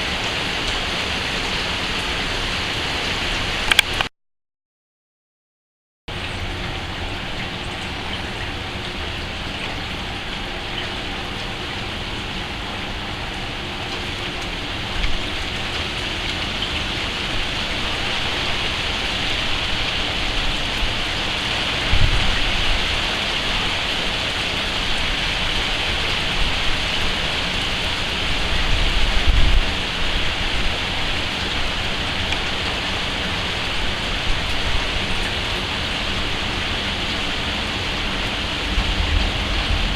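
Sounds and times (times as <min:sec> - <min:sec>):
steady rain falling: 0:00.0 - 0:04.1, 0:06.1 - 0:39.9.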